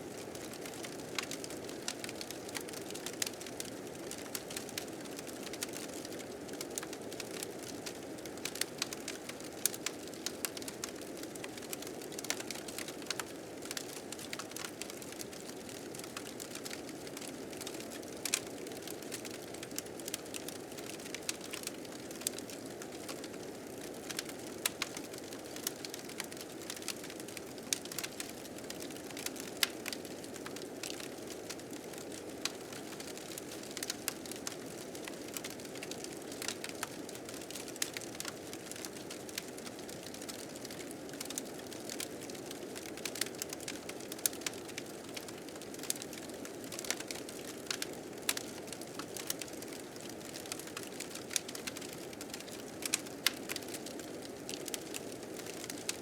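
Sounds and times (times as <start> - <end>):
fire crackling and popping: 0.2 - 56.0.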